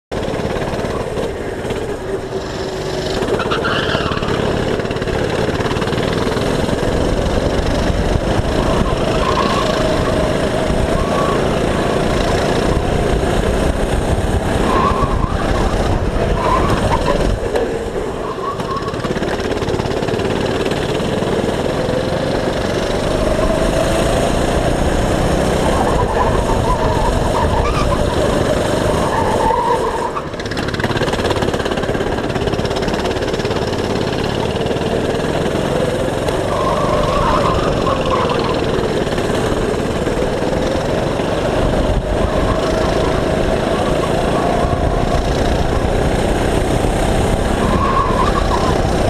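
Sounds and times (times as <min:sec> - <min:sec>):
go-kart engine running hard: 0:00.1 - 0:49.0.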